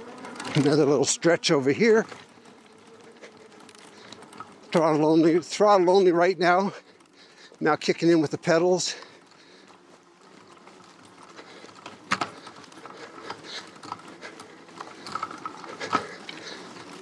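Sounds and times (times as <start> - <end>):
bike rattling: 0.0 - 17.0
tyres on dirt and stones: 0.0 - 17.0.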